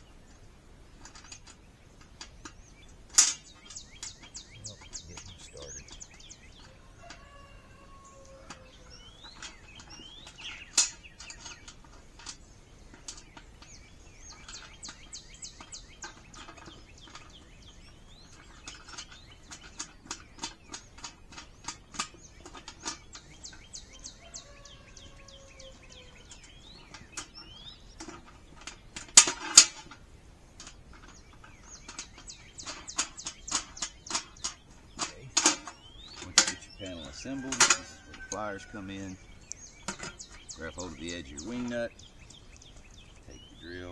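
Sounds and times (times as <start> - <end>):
birds chirping: 0.0 - 43.9
metal clicks and clanks: 1.0 - 43.9.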